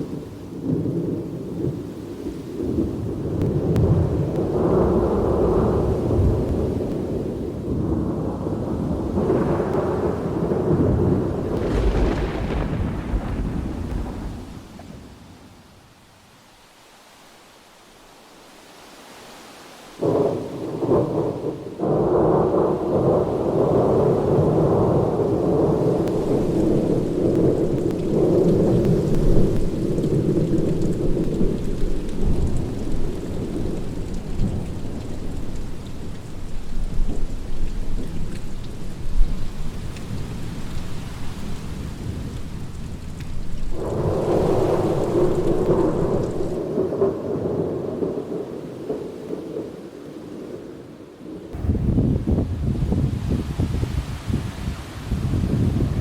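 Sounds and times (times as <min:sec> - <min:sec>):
steady rain: 0:00.0 - 0:56.0
thunder rolling: 0:02.6 - 0:15.7, 0:20.0 - 0:49.8, 0:51.5 - 0:53.7.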